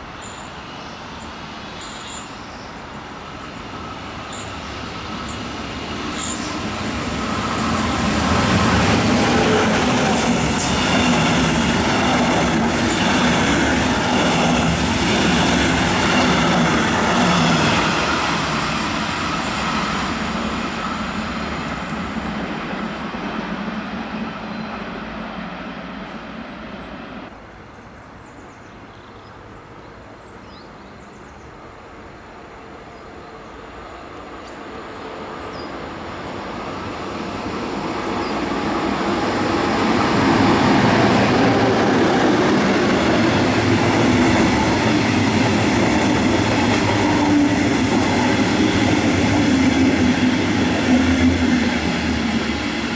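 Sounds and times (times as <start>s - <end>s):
distant train rumble: 0.0s - 27.5s, 31.4s - 52.9s
train passing on rails: 0.0s - 52.9s.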